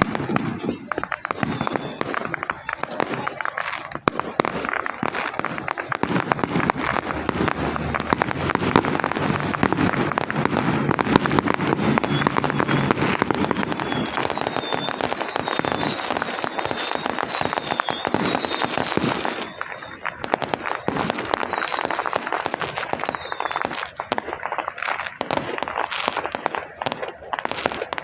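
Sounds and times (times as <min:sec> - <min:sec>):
firecrackers popping: 0:00.0 - 0:28.0.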